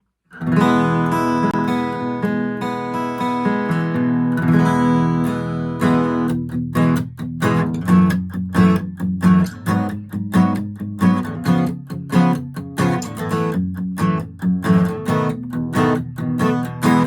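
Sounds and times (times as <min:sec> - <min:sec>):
acoustic guitar strumming: 0:00.4 - 0:17.0.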